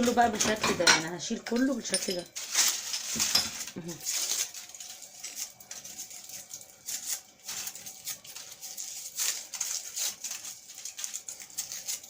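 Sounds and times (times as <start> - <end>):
plastic sheets crinkling: 0.0 - 12.0.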